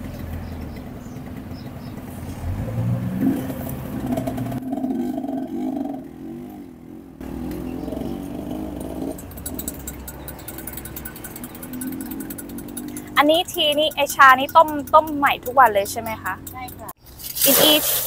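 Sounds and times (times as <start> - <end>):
vehicle engine revving: 0.0 - 17.0
street hum: 0.0 - 18.0.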